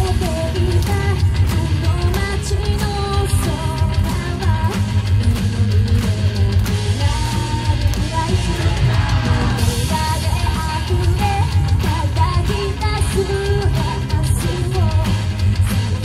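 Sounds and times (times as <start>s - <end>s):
rock band backing: 0.0s - 16.0s
woman singing into microphone: 0.0s - 16.0s.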